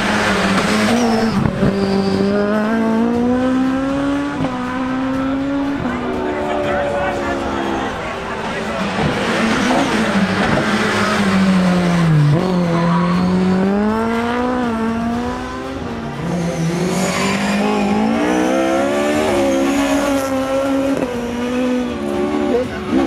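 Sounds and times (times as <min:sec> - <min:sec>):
car engine revving hard: 0:00.0 - 0:23.0.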